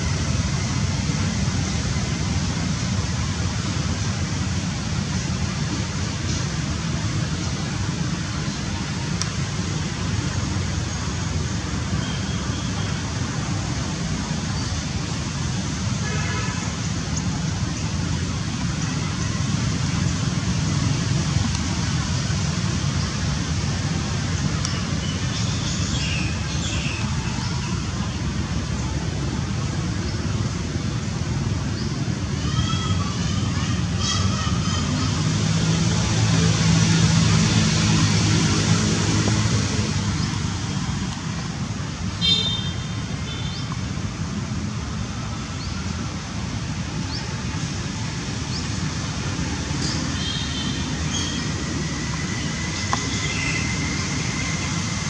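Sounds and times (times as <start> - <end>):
distant road traffic: 0.0 - 55.0.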